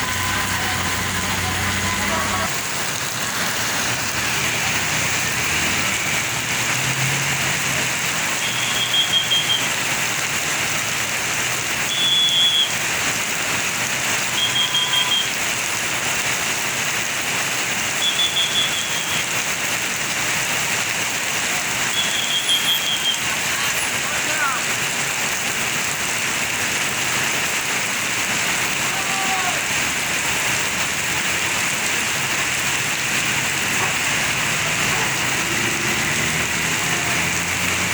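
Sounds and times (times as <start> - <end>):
rain hissing: 0.0 - 37.9.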